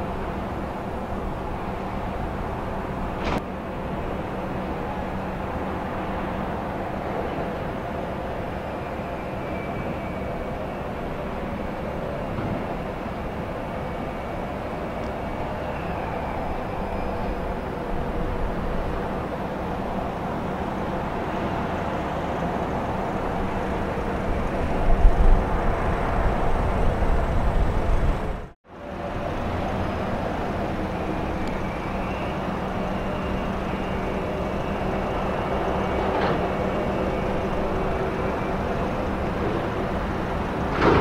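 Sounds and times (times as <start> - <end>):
port machinery drone: 0.0 - 41.0.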